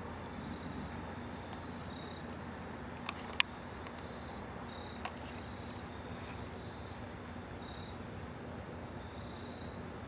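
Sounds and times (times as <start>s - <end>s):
background hiss of woods: 0.0s - 10.0s.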